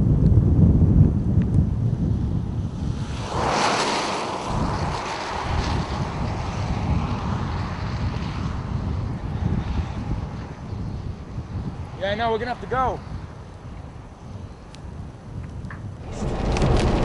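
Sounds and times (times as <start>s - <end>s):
gust of rushing wind: 0.0s - 17.0s
wind buffeting microphone: 0.0s - 17.0s.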